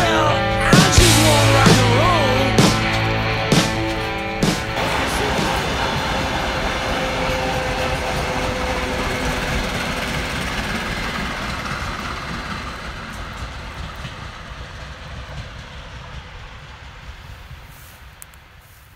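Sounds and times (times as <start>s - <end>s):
electric train running past: 0.0s - 18.9s.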